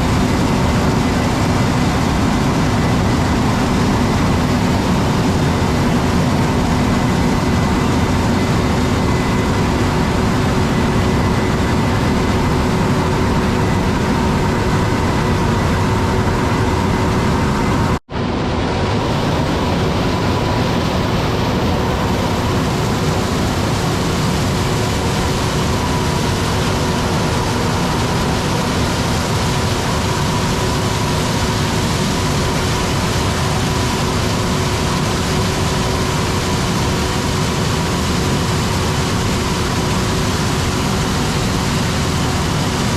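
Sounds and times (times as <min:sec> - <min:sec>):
harvester engine drone with whine: 0:00.0 - 0:42.9.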